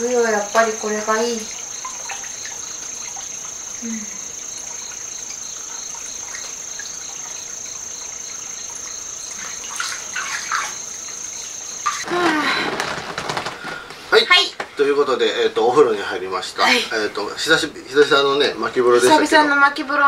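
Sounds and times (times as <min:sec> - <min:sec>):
bath water sloshing: 0:00.0 - 0:19.3
high insect trill: 0:00.0 - 0:20.0.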